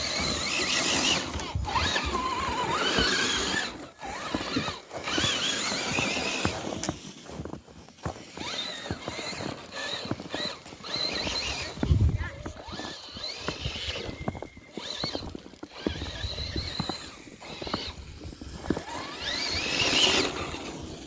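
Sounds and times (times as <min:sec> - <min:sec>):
electric motors whining: 0:00.0 - 0:21.0
tyres clicking and crunching on ground: 0:00.0 - 0:21.0.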